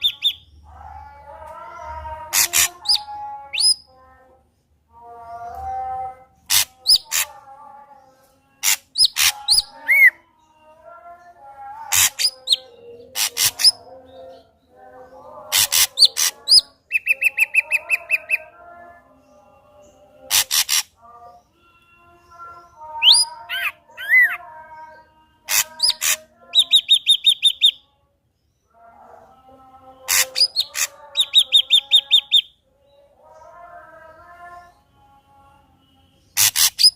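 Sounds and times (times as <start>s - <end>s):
bird singing with trills: 0.0s - 4.0s, 5.0s - 27.9s, 28.7s - 36.9s.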